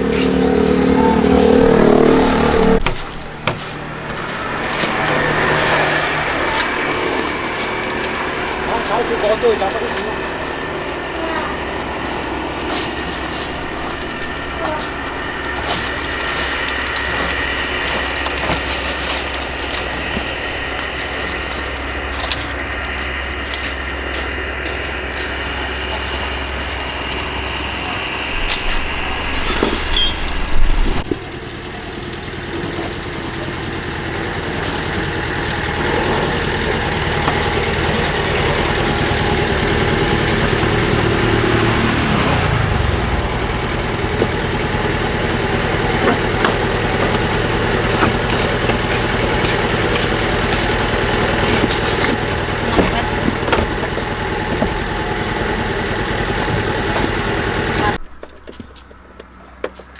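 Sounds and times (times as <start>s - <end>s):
car engine running: 0.0s - 59.8s
engine clattering: 0.0s - 59.9s.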